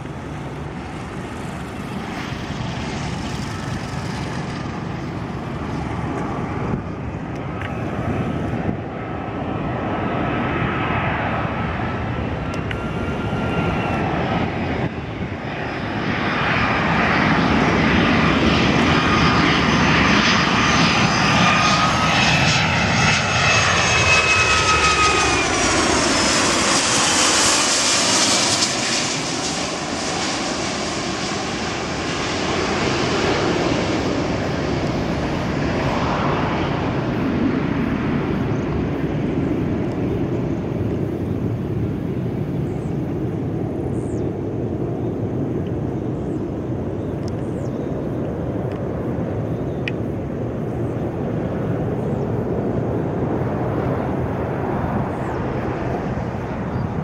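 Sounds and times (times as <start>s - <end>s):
airliner flying overhead: 0.0s - 57.0s
high engine whine: 0.0s - 57.0s.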